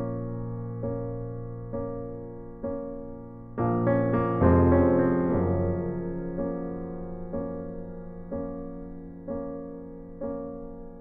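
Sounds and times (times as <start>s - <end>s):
piano chords ringing: 0.0s - 11.0s.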